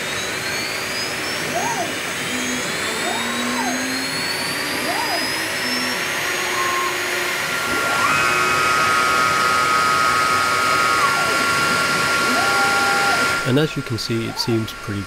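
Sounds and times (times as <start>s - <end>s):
spindle whirring: 0.0s - 15.0s
stepper motors whining: 0.0s - 15.0s.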